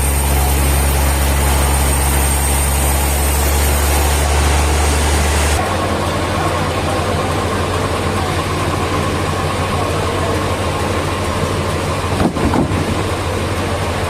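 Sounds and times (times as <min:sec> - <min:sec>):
machinery engine idling: 0:00.0 - 0:14.0.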